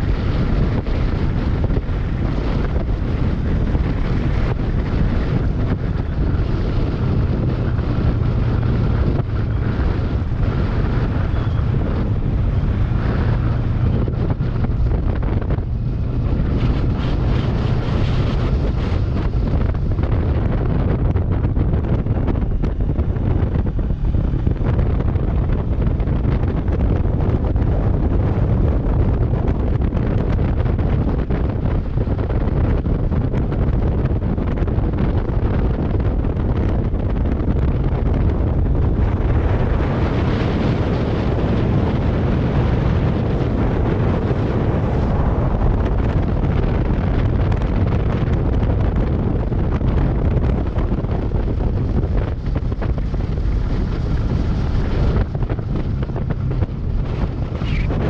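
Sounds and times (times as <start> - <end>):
motorcycle engine rumble: 0.0 - 58.0
wind on microphone: 0.0 - 58.0.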